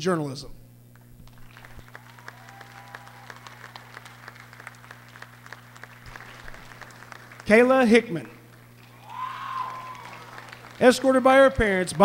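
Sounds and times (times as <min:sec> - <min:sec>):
low electrical hum: 0:00.0 - 0:12.0
crowd applause: 0:01.2 - 0:12.0.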